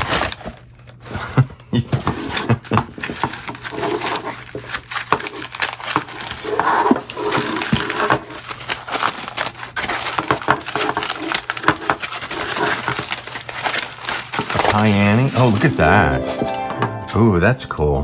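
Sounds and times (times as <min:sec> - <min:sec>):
aluminium foil crinkling: 0:00.0 - 0:16.5.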